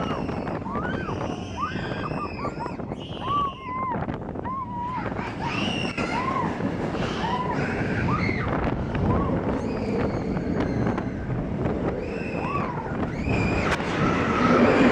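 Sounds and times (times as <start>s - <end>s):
roller coaster rumbling: 0.0s - 14.9s.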